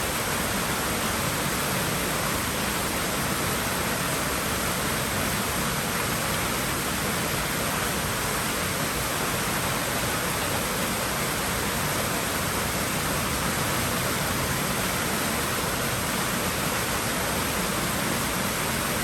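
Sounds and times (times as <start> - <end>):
pool water rushing: 0.0 - 19.0.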